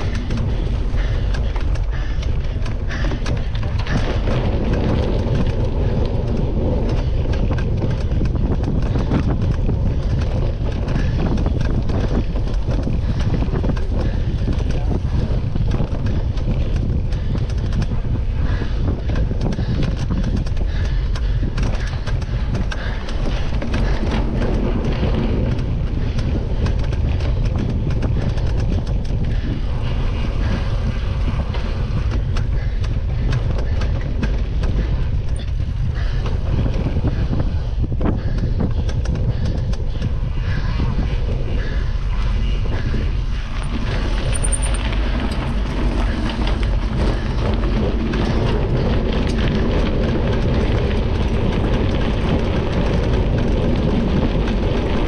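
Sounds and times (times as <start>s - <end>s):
bike rattling on rough ground: 0.0s - 55.0s
wind buffeting microphone: 0.0s - 55.0s.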